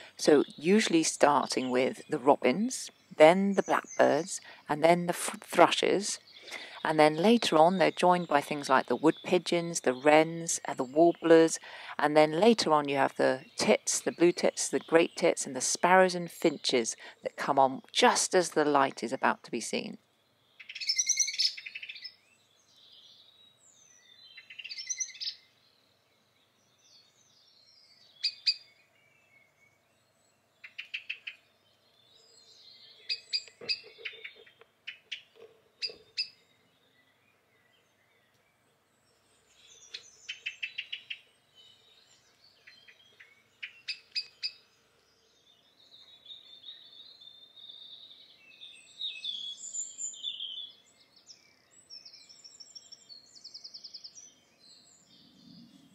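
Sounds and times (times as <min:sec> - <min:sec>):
blackbird singing: 0:00.0 - 0:55.9
song thrush repeated notes: 0:00.0 - 0:55.9.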